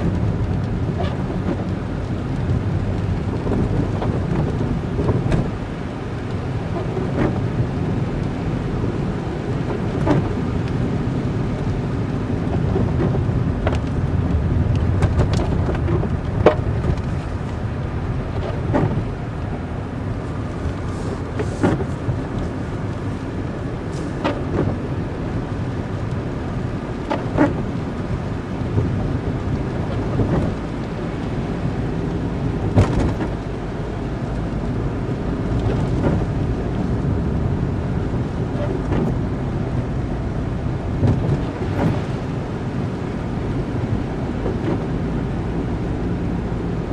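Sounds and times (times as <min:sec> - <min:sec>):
vehicle engine and road rumble: 0:00.0 - 0:46.9.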